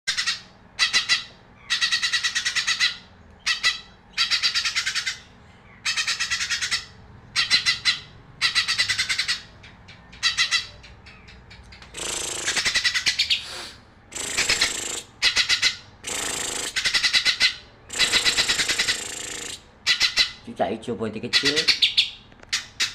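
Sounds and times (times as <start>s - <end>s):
bird chattering song: 0.1s - 22.9s.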